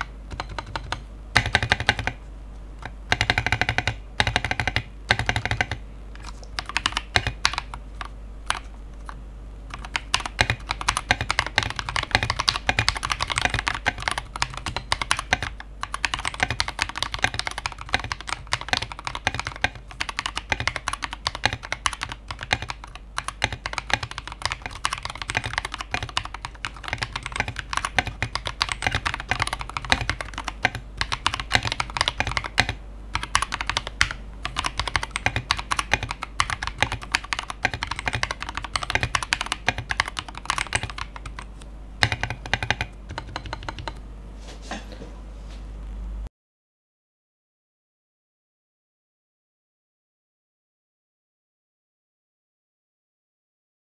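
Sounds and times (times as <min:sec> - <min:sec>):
mechanical keyboard typing: 0:00.0 - 0:02.2, 0:02.8 - 0:44.0
steady low hum: 0:00.0 - 0:46.3.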